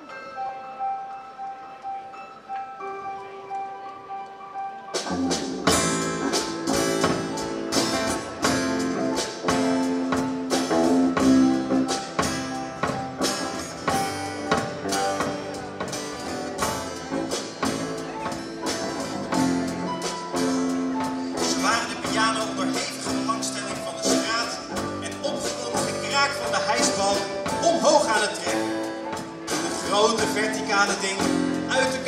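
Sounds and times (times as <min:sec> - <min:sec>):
live band playing instrumental: 0:00.0 - 0:32.0.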